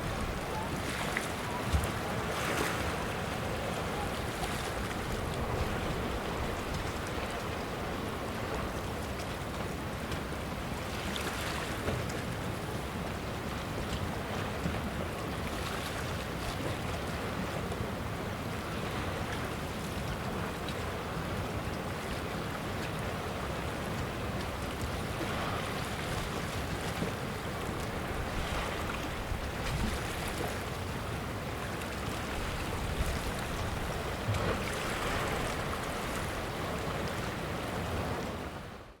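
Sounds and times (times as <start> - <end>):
surf washing over rocks: 0.0 - 39.0.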